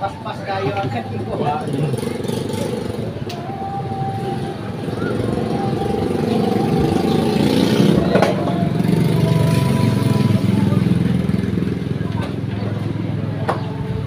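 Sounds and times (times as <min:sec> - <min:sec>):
vehicle engine running: 0:00.2 - 0:14.0.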